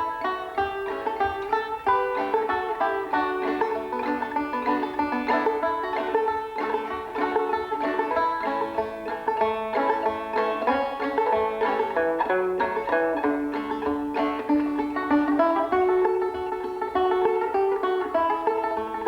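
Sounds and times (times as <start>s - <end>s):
fast-picked banjo music: 0.0s - 19.0s.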